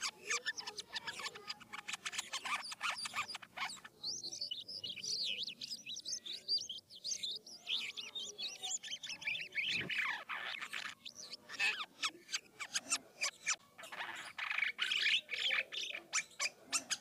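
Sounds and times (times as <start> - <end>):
starling singing: 0.0 - 17.0.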